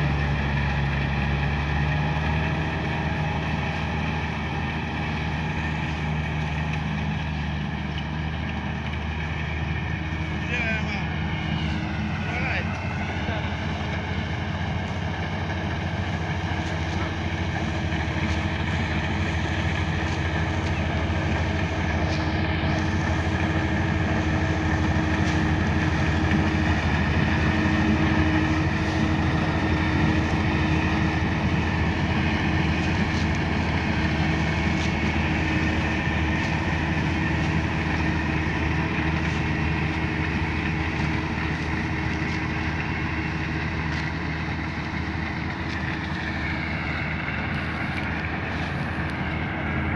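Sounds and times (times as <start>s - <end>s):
combine harvester engine running: 0.0s - 49.9s.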